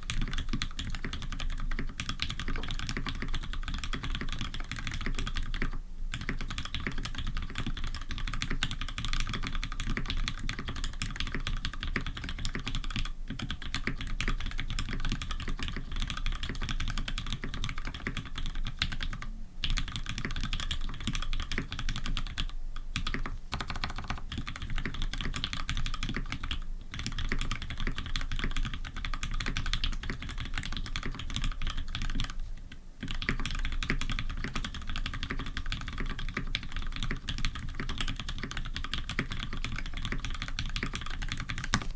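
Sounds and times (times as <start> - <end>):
fast mechanical keyboard typing: 0.0 - 32.4, 33.0 - 41.9.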